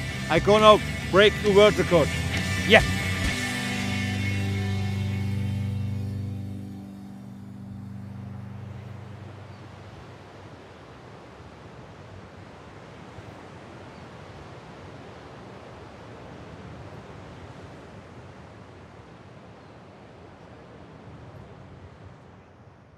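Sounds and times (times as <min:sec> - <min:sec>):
surf: 0:00.0 - 0:22.2
wind: 0:00.0 - 0:22.9.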